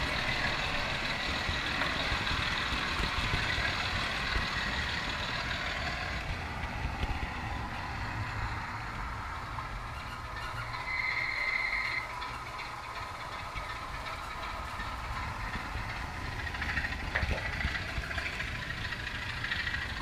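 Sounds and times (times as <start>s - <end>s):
model train wheels rumbling on track: 0.0s - 20.0s.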